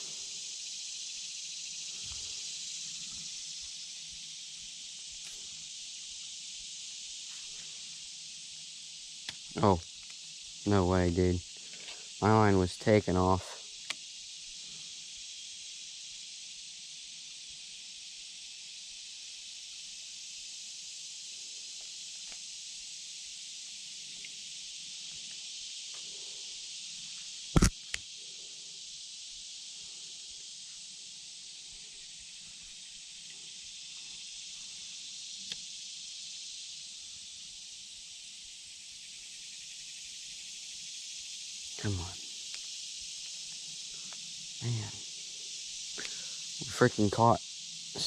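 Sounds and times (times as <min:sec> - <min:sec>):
creekside ambience hiss: 0:00.0 - 0:48.0
insect chorus drone: 0:00.0 - 0:48.0.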